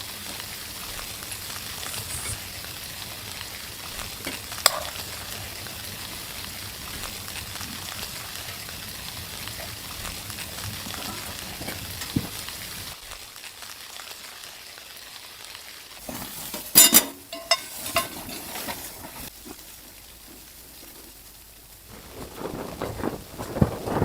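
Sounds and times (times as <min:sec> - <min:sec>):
sharp crackles and clicks: 0:00.0 - 0:24.0
sizzling hiss: 0:00.0 - 0:24.0.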